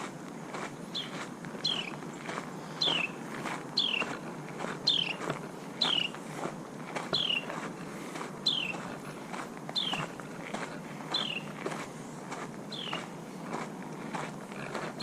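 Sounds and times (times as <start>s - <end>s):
footsteps crunching on trail: 0.0s - 15.0s.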